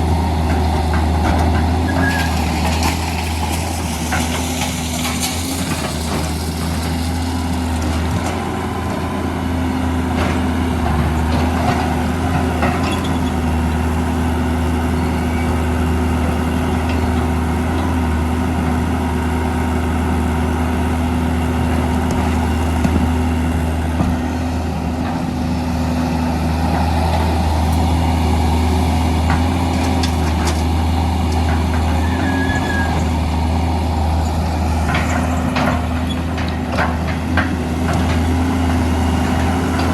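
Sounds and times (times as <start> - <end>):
diesel engines humming: 0.0 - 39.9.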